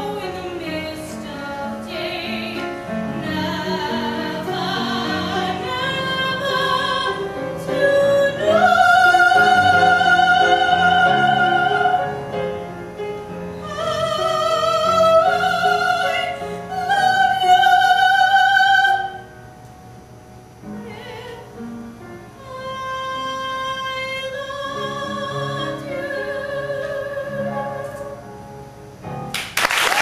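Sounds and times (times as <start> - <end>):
woman singing: 0.0 - 12.3, 13.6 - 19.3, 20.7 - 21.8, 22.4 - 28.3
quiet musical accompaniment: 0.0 - 29.5.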